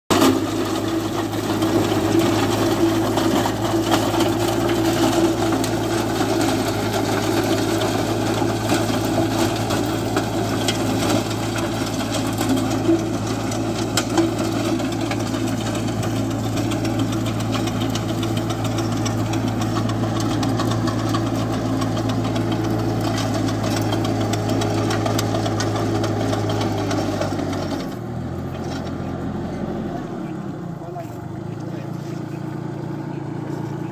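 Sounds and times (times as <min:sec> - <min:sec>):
diesel tractor engine running: 0:00.1 - 0:33.9
rotary tiller churning soil: 0:00.1 - 0:33.9.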